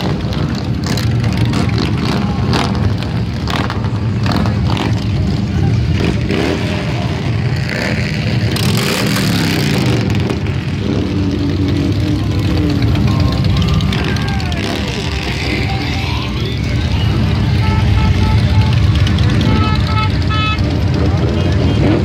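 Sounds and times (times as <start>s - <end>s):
motorcycles rumbling past: 0.0s - 22.0s.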